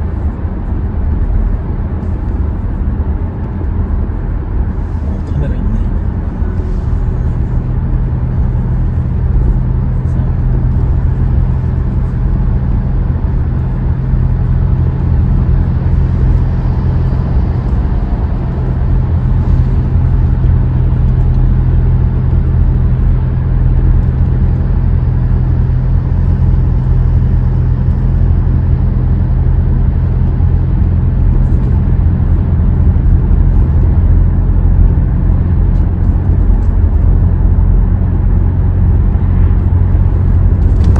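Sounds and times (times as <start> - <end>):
engine and road drone: 0.0 - 40.9
steady hum: 0.0 - 40.9.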